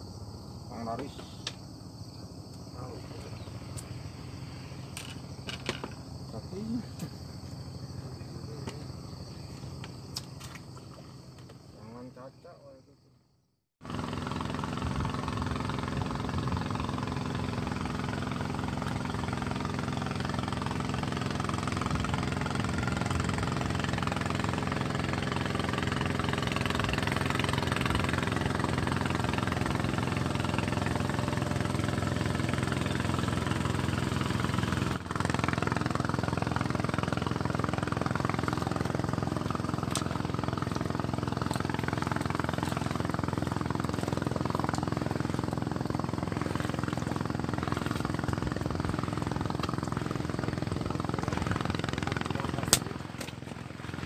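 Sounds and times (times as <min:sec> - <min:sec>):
small engine running: 0:00.0 - 0:12.2, 0:13.8 - 0:54.0.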